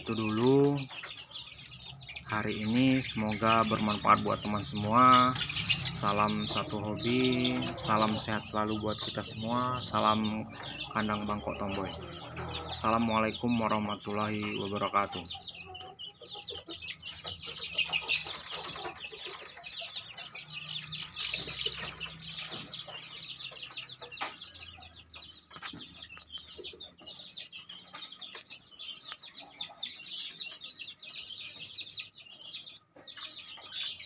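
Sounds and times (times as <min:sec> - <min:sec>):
chickens clucking: 0:00.0 - 0:34.0
high bird chirps: 0:00.0 - 0:34.0.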